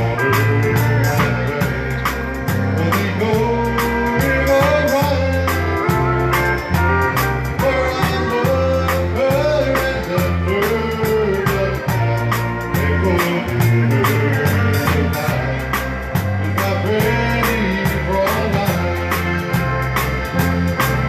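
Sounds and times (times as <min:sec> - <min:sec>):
live country band playing: 0:00.0 - 0:21.0.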